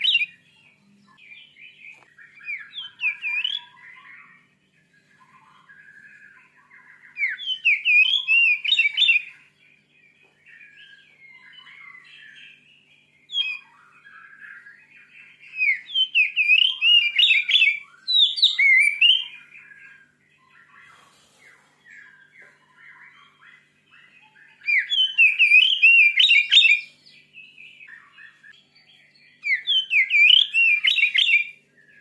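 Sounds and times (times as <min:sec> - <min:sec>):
bird singing whistled phrases: 0:00.0 - 0:09.5, 0:10.5 - 0:21.0, 0:21.9 - 0:32.0
soft bird twittering: 0:00.0 - 0:32.0.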